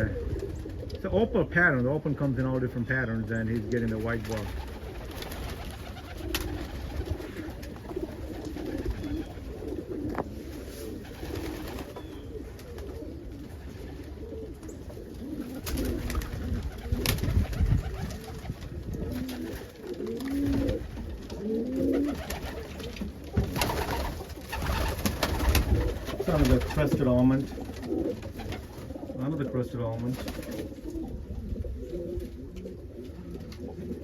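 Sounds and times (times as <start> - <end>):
pigeons cooing: 0.0 - 2.0, 3.0 - 34.0.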